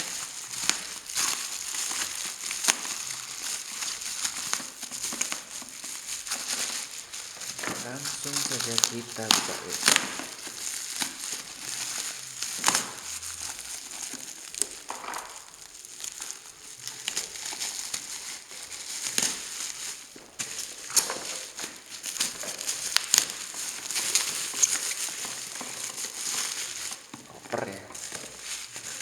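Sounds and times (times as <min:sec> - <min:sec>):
plastic wrap crinkling: 0:00.0 - 0:29.0.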